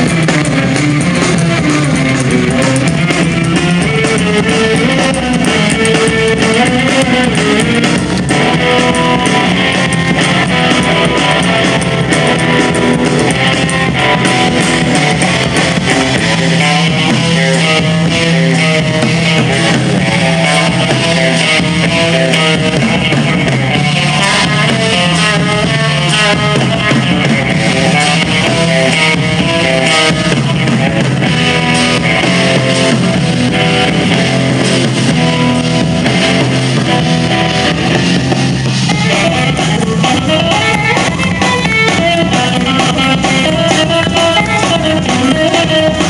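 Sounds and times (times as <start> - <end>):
electric guitar: 0.0 - 46.0
low bass notes: 0.0 - 46.0.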